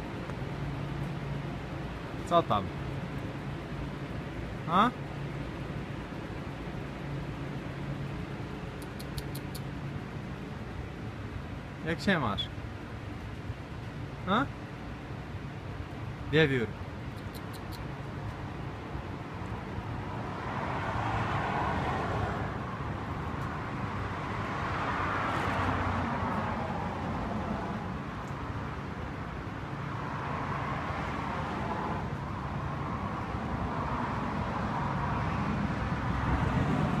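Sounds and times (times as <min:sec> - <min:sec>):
low traffic rumble: 0:00.0 - 0:37.0
vehicles passing: 0:00.0 - 0:37.0.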